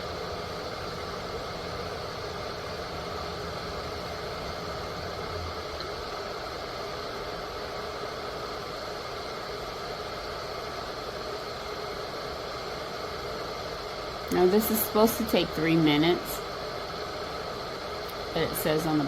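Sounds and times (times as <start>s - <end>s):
electric kettle hissing: 0.0s - 19.0s.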